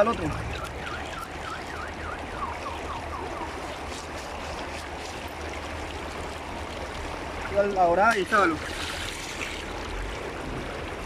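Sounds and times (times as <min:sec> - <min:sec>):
shallow river water rushing: 0:00.0 - 0:11.0.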